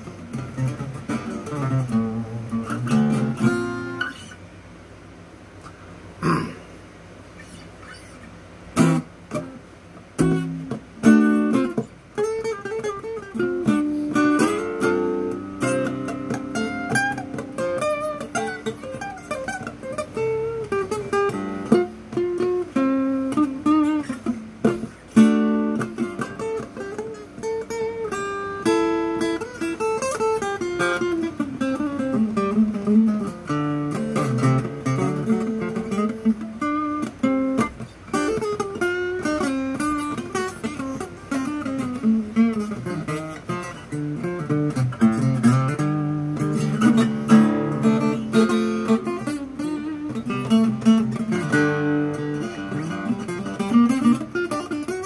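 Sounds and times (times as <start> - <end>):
acoustic guitar flatpicked: 0.0 - 4.6, 5.6 - 55.0.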